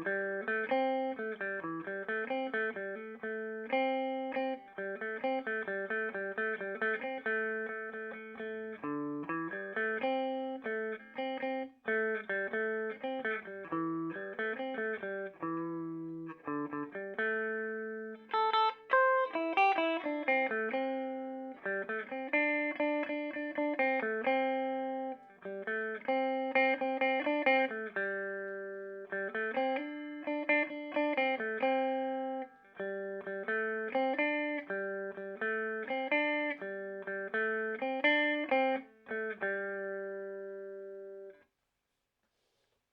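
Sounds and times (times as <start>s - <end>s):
clean electric guitar: 0.0s - 41.4s.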